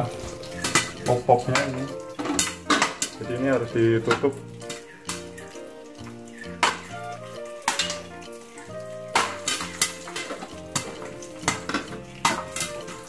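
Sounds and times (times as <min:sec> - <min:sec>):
popcorn popping in metal pot: 0:00.0 - 0:13.0.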